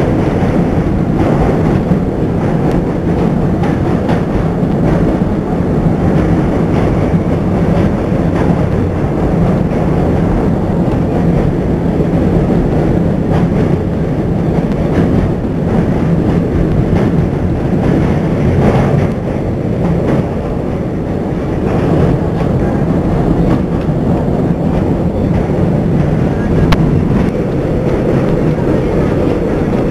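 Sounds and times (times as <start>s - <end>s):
subway train rumbling and rattling: 0.0s - 29.9s.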